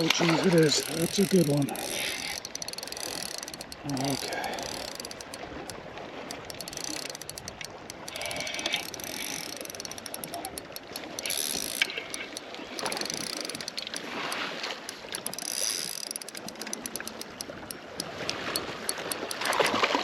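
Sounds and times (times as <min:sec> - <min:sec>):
fishing reel clicking: 0:00.0 - 0:20.0.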